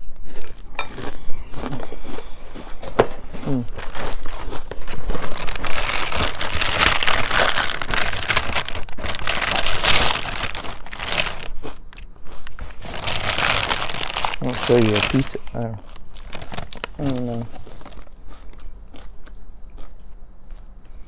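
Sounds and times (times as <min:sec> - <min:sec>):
plastic bag crinkling: 0:01.4 - 0:18.7.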